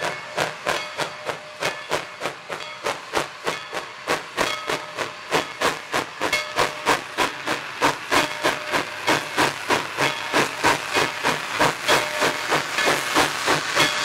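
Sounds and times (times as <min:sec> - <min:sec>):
steam hissing: 0:00.0 - 0:14.0
steam locomotive chuffing: 0:00.0 - 0:14.0.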